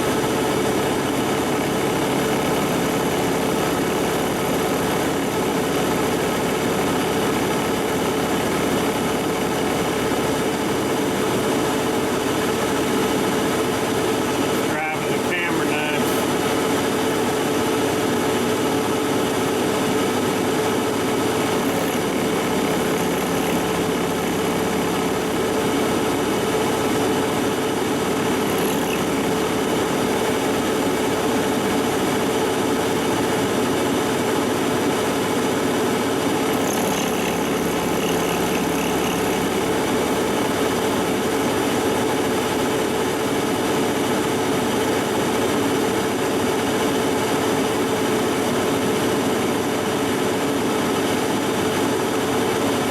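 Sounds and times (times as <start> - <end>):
metal cutting on lathe: 0.0 - 51.4
lathe running: 0.0 - 52.9.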